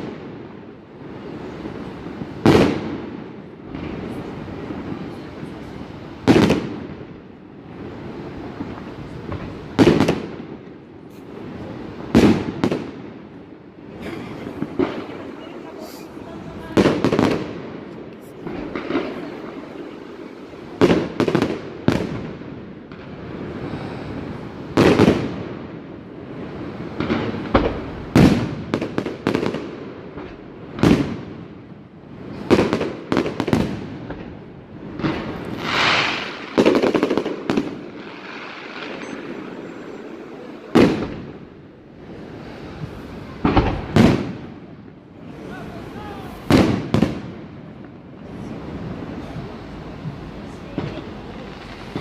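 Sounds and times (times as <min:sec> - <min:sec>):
fireworks bursting with echo: 0:00.0 - 0:52.0.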